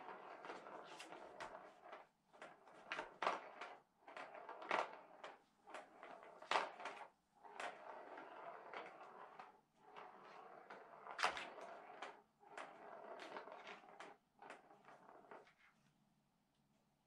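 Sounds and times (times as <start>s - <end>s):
plastic ball rolling on track: 0.0s - 15.7s.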